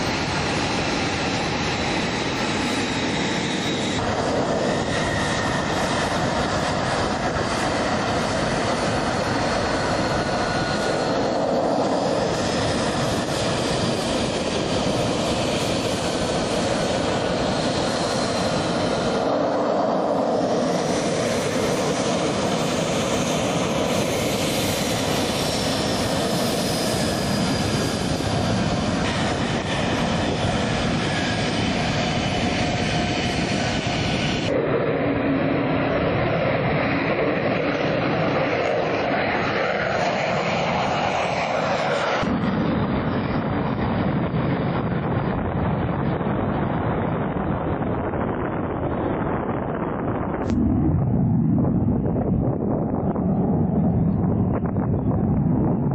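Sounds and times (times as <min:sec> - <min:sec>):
jet engine rushing and whining: 0:00.0 - 0:55.9.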